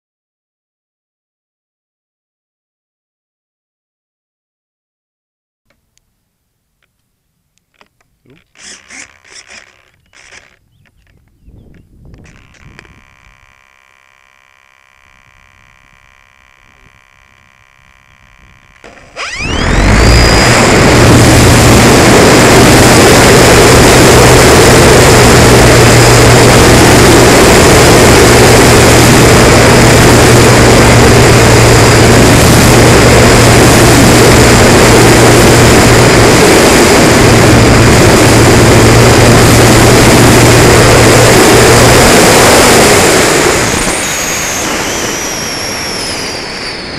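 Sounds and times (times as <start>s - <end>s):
electric motor and propeller whine: 7.7s - 46.9s.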